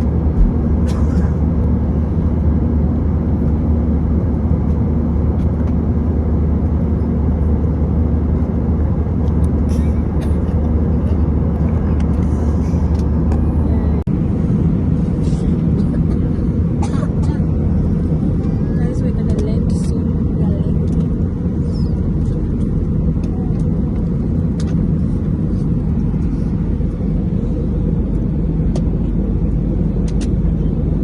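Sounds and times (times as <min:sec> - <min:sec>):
constant low hum: 0:00.0 - 0:31.0
vehicle rumble from inside: 0:00.0 - 0:31.0.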